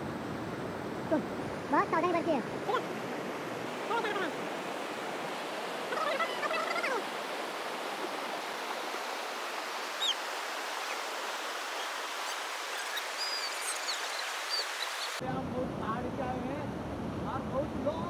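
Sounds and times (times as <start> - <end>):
stream water rushing: 0.0 - 15.2.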